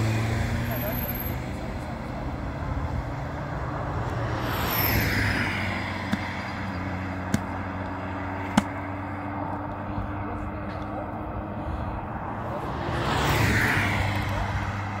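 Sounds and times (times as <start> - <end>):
engine running: 0.0 - 13.3.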